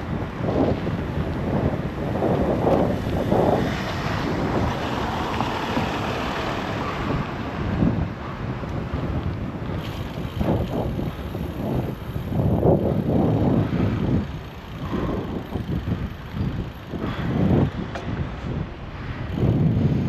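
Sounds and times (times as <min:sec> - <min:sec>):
road traffic: 0:00.0 - 0:20.0
wind buffeting microphone: 0:00.0 - 0:20.0.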